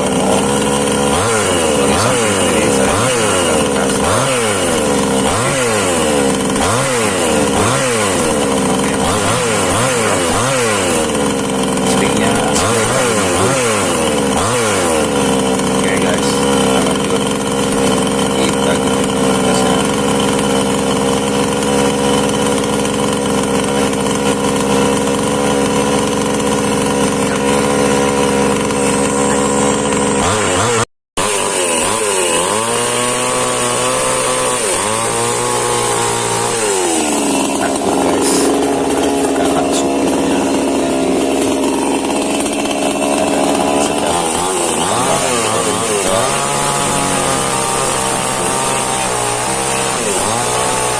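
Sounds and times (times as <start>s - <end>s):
chainsaw engine revving: 0.0s - 50.9s.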